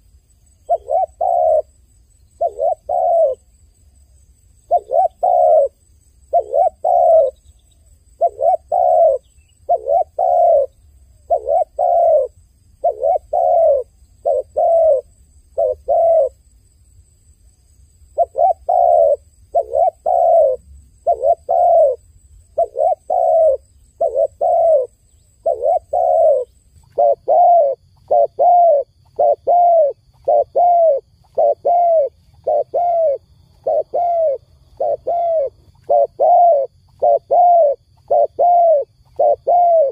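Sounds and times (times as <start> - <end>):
dove cooing: 0.6 - 1.7, 2.4 - 3.5, 4.7 - 7.4, 8.2 - 16.4, 18.2 - 39.9.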